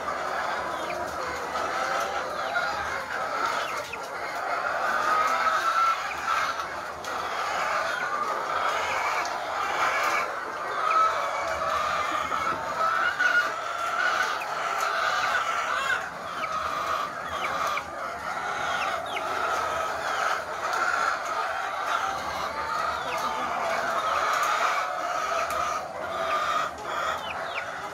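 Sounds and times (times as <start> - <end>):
hens clucking: 0.0 - 27.9.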